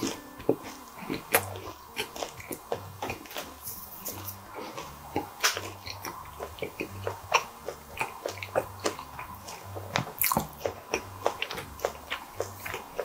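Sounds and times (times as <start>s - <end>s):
close-up chewing: 0.0s - 13.0s.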